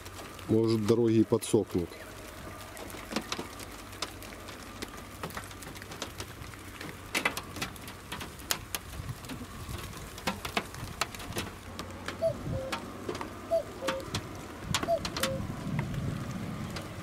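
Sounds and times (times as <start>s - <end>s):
rain hiss: 0.0s - 17.0s
raindrops tapping on glass: 2.6s - 17.0s.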